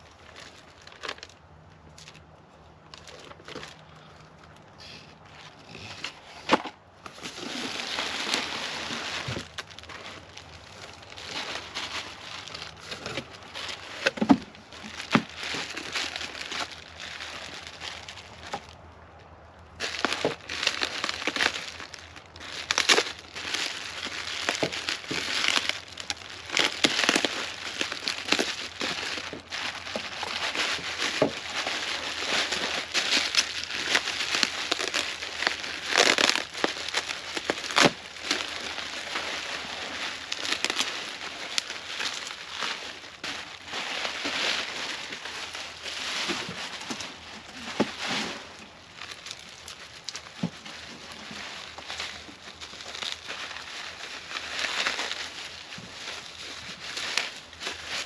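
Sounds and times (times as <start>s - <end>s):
packaging crinkling and rustling: 0.0s - 58.0s.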